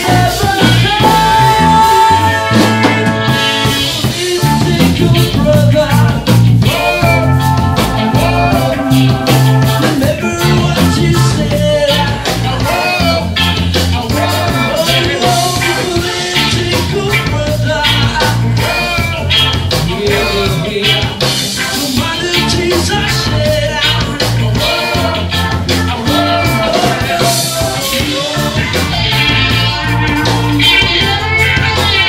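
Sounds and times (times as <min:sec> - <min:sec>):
live reggae band playing: 0:00.0 - 0:32.0
man singing: 0:00.0 - 0:32.0.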